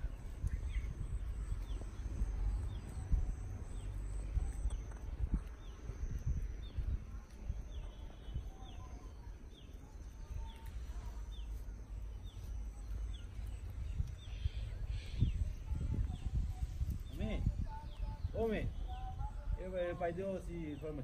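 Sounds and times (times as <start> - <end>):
low rumble: 0.0 - 20.1
bird chirping: 0.0 - 21.0.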